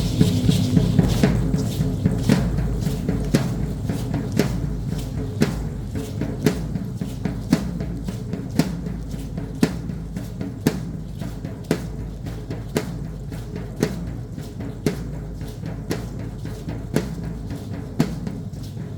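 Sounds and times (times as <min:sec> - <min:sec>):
drum beating a rhythm: 0:00.0 - 0:18.9.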